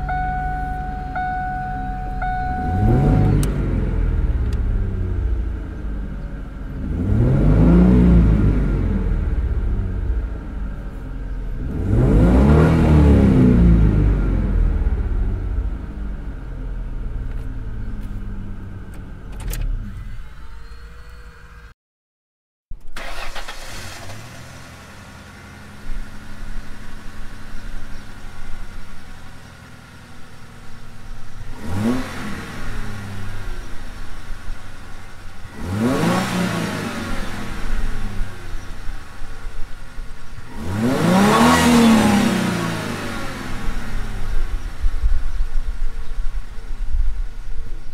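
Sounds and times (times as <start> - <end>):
car engine revving: 0.0 - 20.3, 23.0 - 46.8
car engine starting and idling: 0.0 - 21.7, 22.8 - 47.9.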